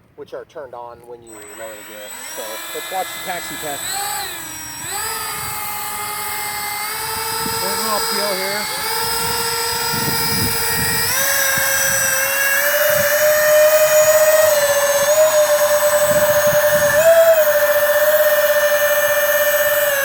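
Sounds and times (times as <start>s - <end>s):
model jet engines whining: 1.2s - 20.0s.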